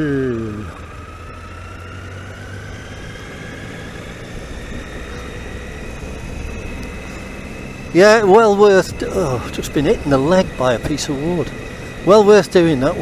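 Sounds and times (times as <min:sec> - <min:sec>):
faint rising whine: 0:00.0 - 0:13.0
motorcycle engine rumble: 0:00.0 - 0:13.0
wind rumble: 0:00.9 - 0:13.0.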